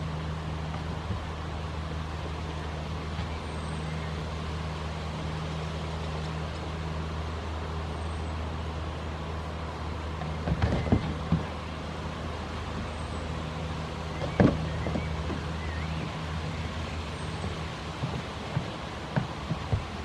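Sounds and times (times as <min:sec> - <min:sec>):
constant hiss: 0:00.0 - 0:20.0.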